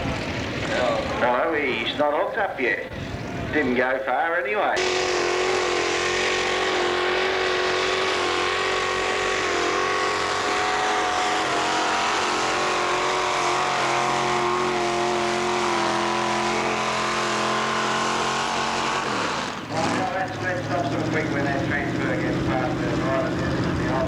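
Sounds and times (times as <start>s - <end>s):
tractor engine running hard: 0.0s - 3.6s, 4.8s - 24.0s.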